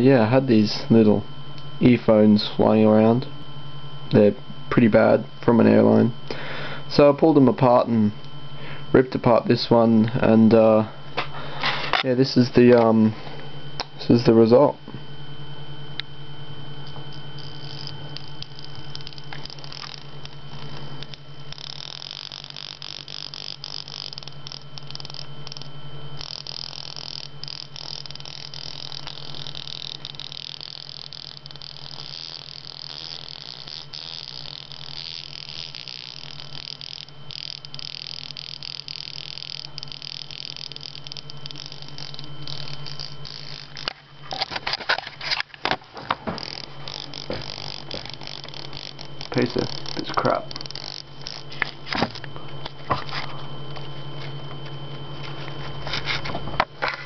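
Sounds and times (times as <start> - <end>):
crackling buzzy speaker noise: 0.0 - 57.0
steady low hum: 0.0 - 57.0.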